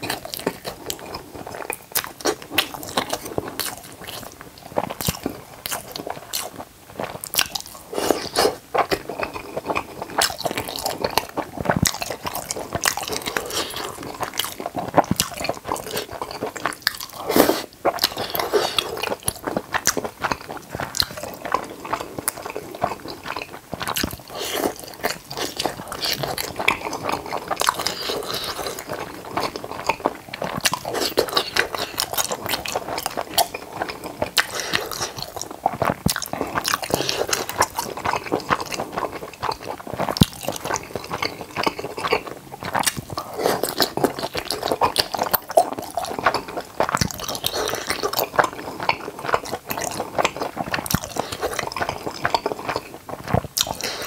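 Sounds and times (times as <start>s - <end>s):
person chewing and smacking: 0.0s - 54.0s.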